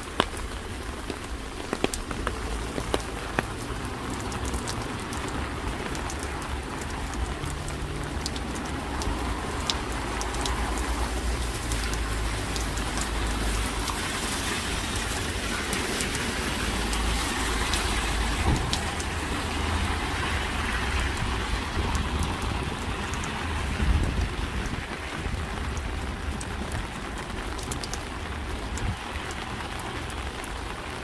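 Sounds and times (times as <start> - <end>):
rain falling on a street: 0.0 - 31.0
sharp drip ticks: 0.1 - 30.7.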